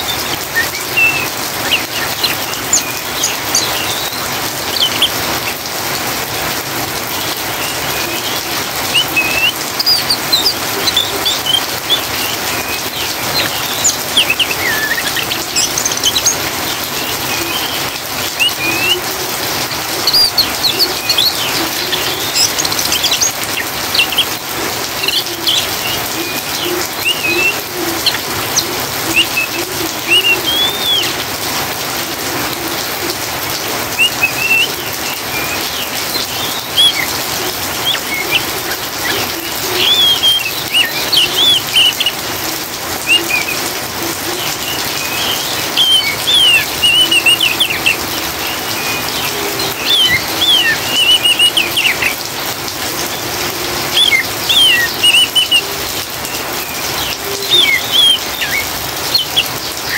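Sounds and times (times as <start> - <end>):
bird twittering chirps: 0.0 - 5.7, 7.2 - 31.2, 33.9 - 42.4, 43.0 - 52.3, 53.0 - 59.9
steady rain hiss: 0.0 - 59.9.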